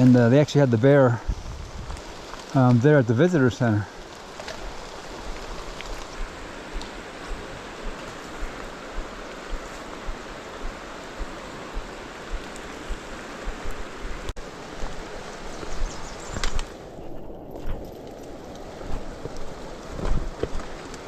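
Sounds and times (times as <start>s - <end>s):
footsteps on trail: 1.1s - 21.0s
creek rushing: 2.0s - 21.0s.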